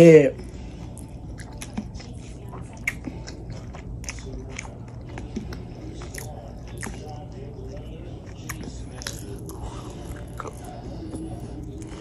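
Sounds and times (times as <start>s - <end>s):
person chewing with lip smacks: 0.8s - 12.0s.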